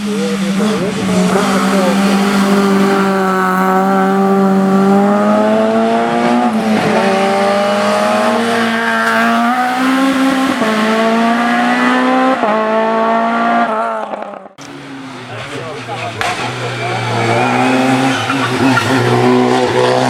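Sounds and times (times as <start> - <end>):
race car engine under load: 0.0 - 20.0.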